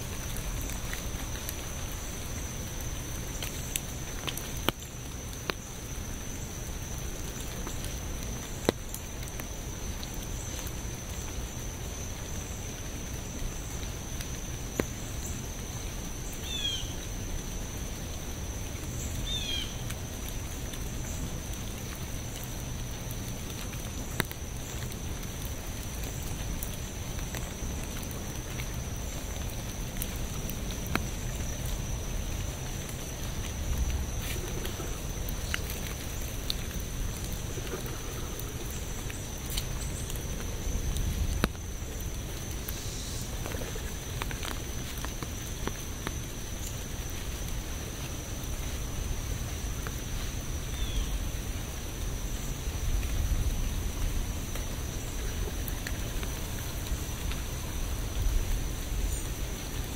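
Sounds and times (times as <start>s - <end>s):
sharp drips: 0.0s - 59.9s
steady rain: 0.0s - 59.9s.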